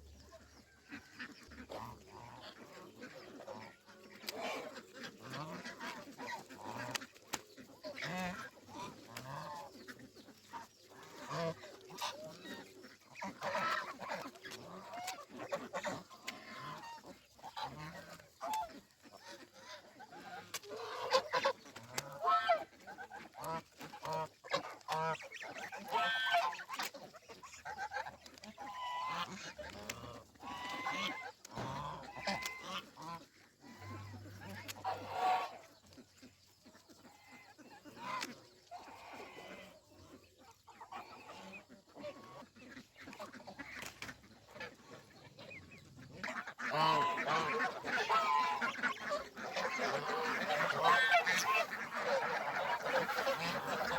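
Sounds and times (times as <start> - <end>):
geese honking: 0.0 - 53.9
other poultry calling: 0.0 - 53.9.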